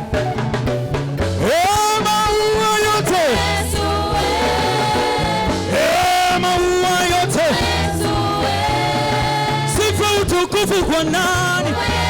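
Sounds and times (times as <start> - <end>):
live gospel band playing: 0.0 - 12.0.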